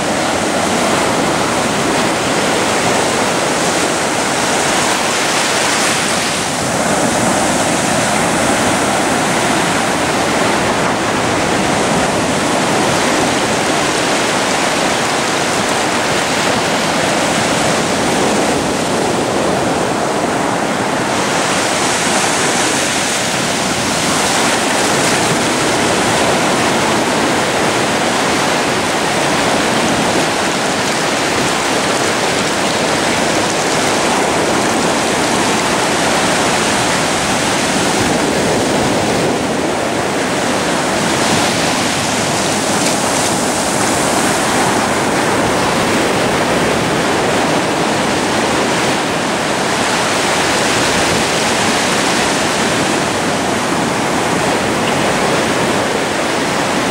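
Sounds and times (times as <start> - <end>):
surf breaking and water rushing: 0.0 - 56.9.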